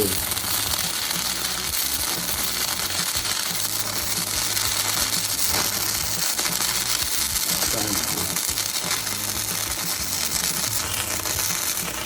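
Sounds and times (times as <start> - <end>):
welding arc crackling and hissing: 0.0 - 12.0.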